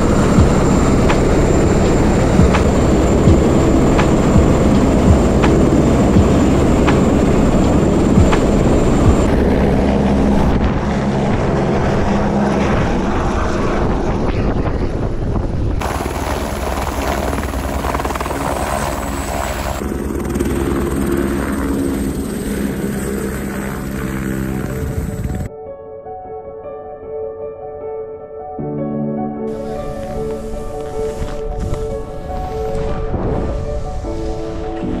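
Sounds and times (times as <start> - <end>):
helicopter rotor and turbine: 0.0 - 25.5, 29.5 - 35.0
rotor-wash wind on microphone: 0.0 - 25.5, 29.6 - 35.0.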